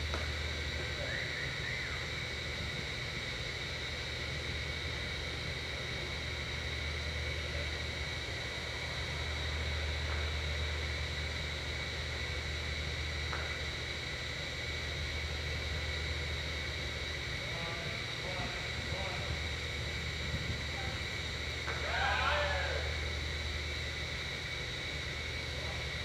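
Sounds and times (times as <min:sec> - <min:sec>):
constant hiss: 0:00.0 - 0:26.0
steady low hum: 0:00.0 - 0:26.0.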